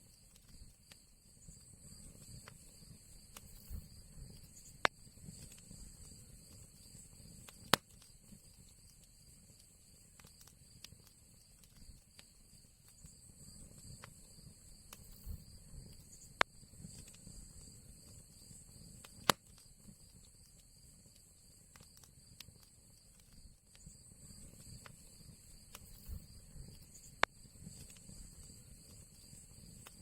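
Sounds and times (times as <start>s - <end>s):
wood fire crackling: 0.0s - 30.0s
sharp fire pops: 0.1s - 30.0s.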